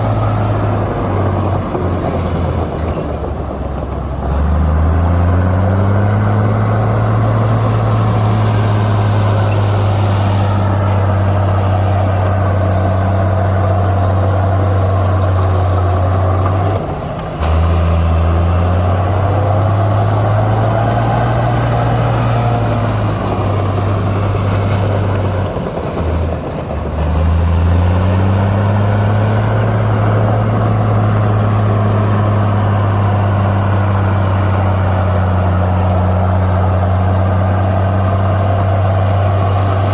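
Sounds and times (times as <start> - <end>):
heavy diesel engine under load: 0.0 - 39.9.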